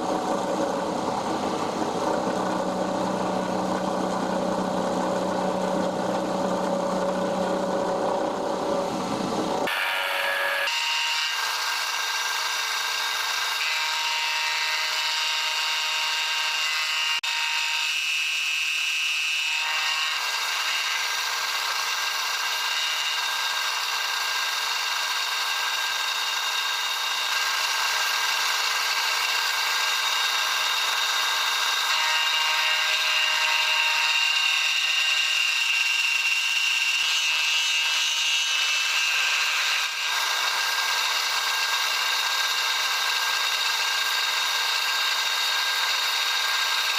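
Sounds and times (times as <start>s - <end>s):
milling machine cutting metal: 0.0s - 46.9s.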